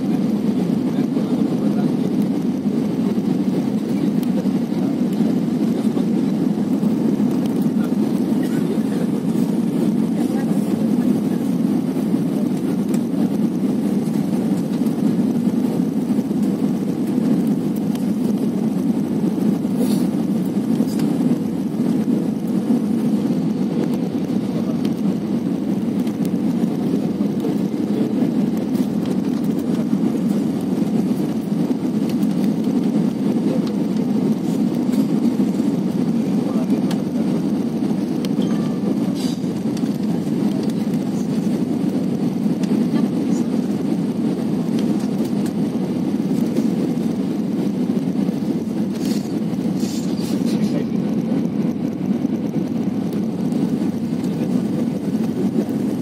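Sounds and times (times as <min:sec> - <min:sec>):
jet engine and airflow rumble: 0:00.0 - 0:56.0.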